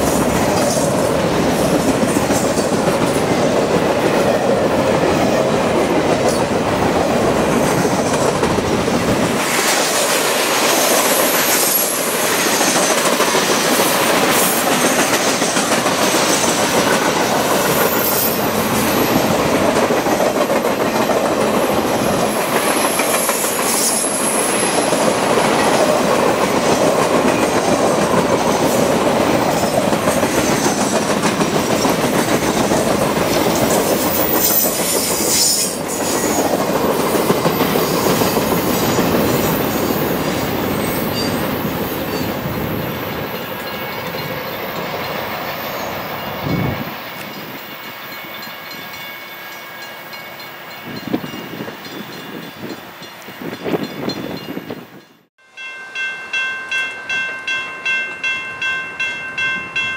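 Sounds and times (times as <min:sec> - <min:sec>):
freight train wheels clattering: 0:00.0 - 0:48.9.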